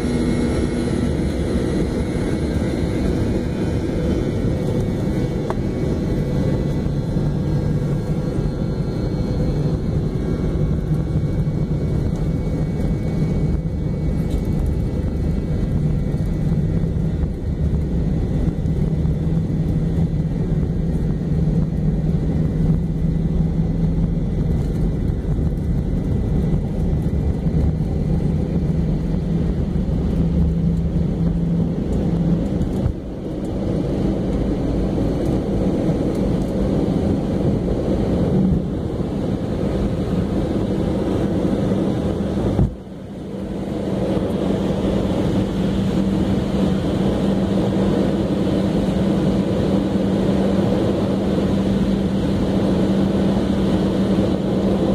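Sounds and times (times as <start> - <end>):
jet engines loud low drone: 0.0 - 54.9
wheels rumbling on runway: 0.0 - 54.9.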